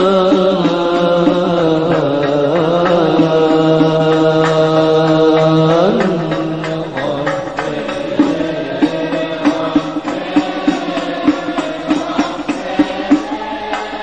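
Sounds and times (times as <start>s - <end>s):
devotional chanting over a beat: 0.0s - 14.0s.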